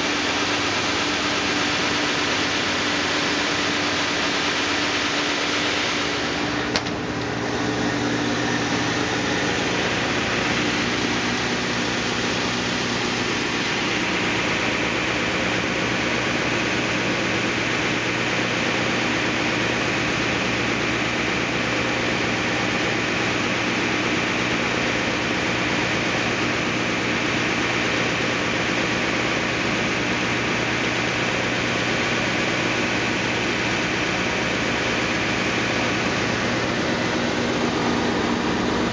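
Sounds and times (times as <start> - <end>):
planer sander droning: 0.0 - 38.9.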